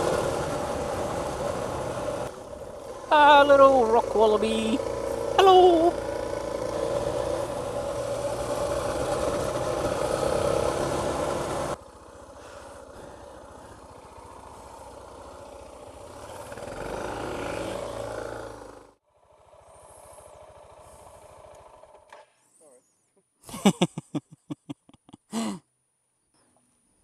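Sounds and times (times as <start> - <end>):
motorcycle engine running: 0.0 - 22.1.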